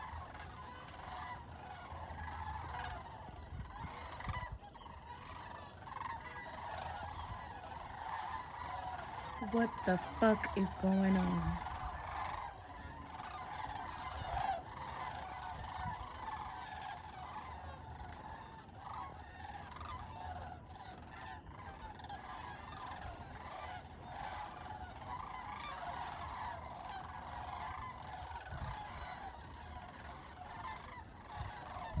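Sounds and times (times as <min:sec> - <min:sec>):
flock of birds calling: 0:00.0 - 0:32.0.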